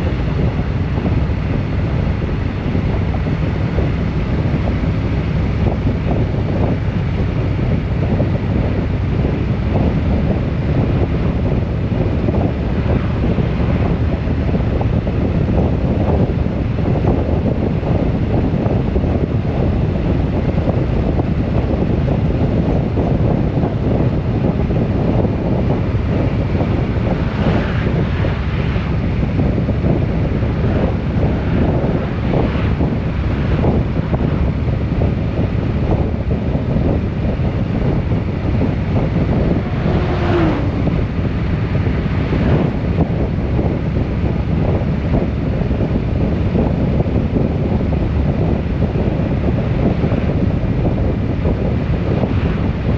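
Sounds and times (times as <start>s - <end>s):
road noise: 0.0s - 52.9s
vehicle engine drone: 0.0s - 52.9s
wind buffeting microphone: 0.0s - 52.9s.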